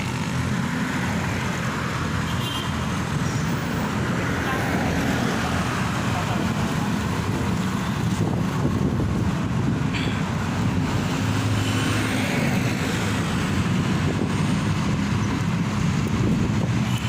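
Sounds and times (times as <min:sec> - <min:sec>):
vehicle engine and tyre hum: 0:00.0 - 0:17.0.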